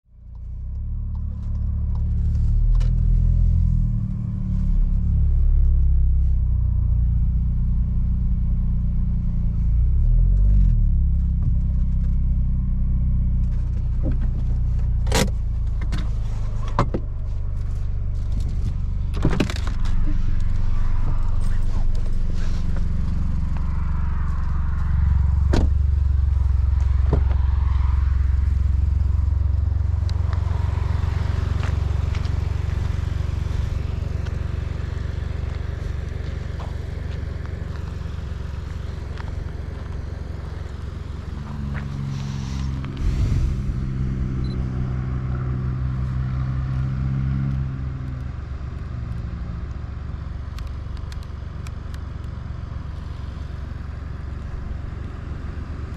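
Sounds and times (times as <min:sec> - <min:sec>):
car engine running at low revs: 0:00.0 - 0:55.9.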